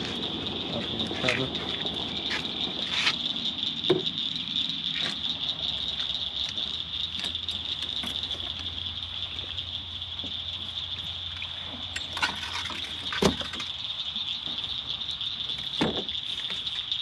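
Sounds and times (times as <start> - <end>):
night insect chorus: 0.0 - 17.0.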